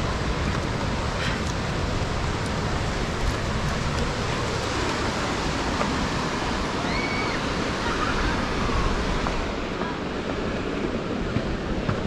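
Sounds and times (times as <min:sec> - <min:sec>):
ocean surf washing in: 0:00.0 - 0:12.0.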